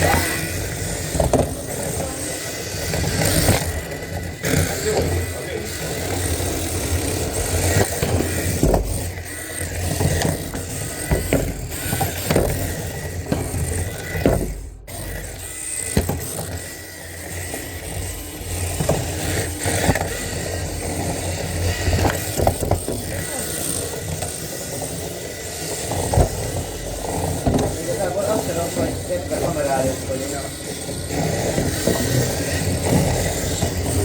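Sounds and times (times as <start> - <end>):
electric motors whining: 0.0 - 34.0.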